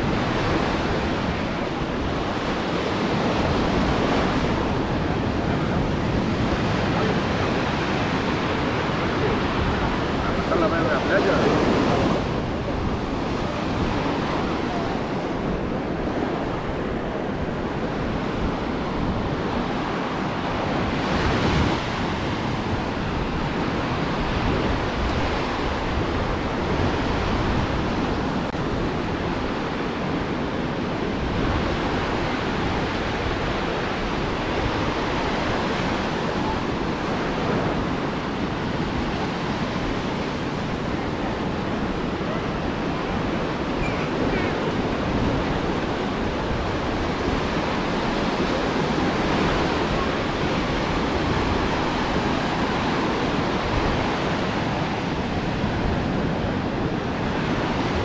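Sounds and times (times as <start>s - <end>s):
ocean surf washing on beach: 0.0s - 58.0s
wind rumble on microphone: 0.0s - 58.0s.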